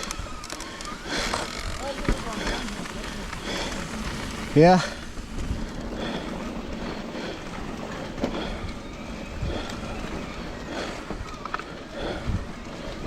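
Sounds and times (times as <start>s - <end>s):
bike rattling clicks and knocks: 0.0s - 13.0s
tyres rumbling on dirt: 0.0s - 13.0s
wind on microphone: 1.4s - 11.4s, 12.0s - 13.0s.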